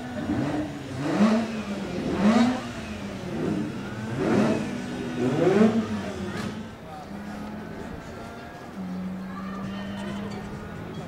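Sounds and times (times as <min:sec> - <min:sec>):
rotary engine idling and revving: 0:00.0 - 0:11.0.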